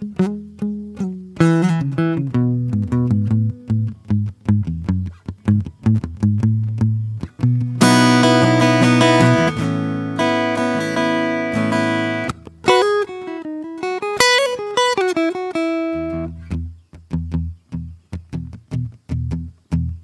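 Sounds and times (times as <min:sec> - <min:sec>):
acoustic guitar playing: 0:00.0 - 0:17.6.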